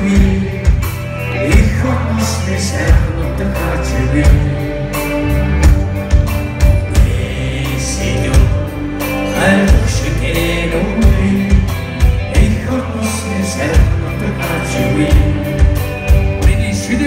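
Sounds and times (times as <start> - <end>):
drums beating: 0.0 - 17.0
heavy metal band playing live: 0.0 - 17.0
person singing: 0.0 - 17.0.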